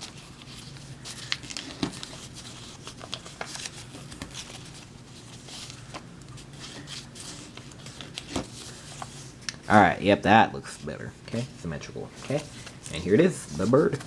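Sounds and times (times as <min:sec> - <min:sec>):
folded paper crackling: 0:00.0 - 0:10.0, 0:10.7 - 0:14.0.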